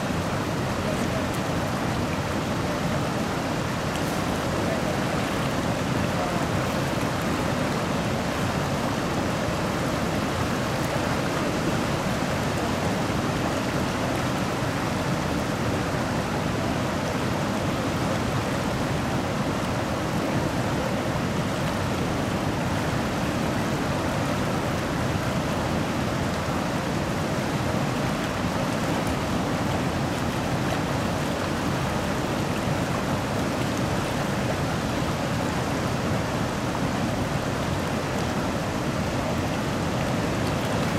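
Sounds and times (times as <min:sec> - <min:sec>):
river rushing over rapids: 0:00.0 - 0:40.9.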